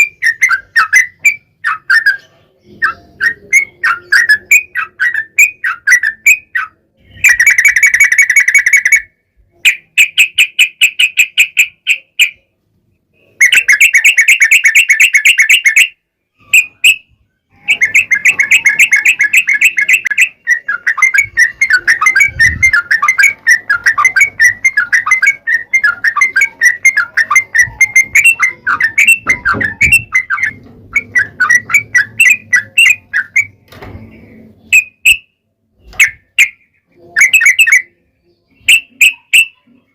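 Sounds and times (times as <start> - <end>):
bird singing fast chattering notes: 0.0 - 12.5, 13.2 - 33.7, 34.3 - 39.9.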